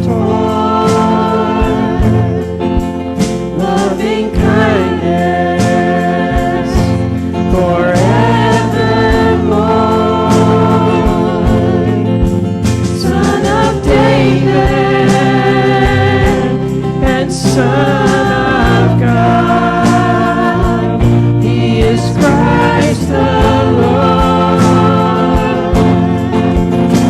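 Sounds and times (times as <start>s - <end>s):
drum beats: 0.0s - 27.0s
voices singing together: 0.0s - 27.0s.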